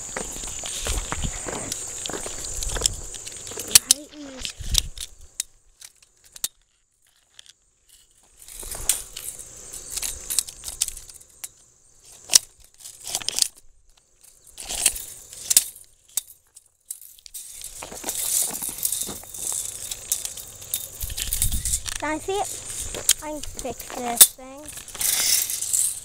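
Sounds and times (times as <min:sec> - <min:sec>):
rustling handling noise: 0:00.2 - 0:26.0
tape measure metallic clicks: 0:02.7 - 0:26.0.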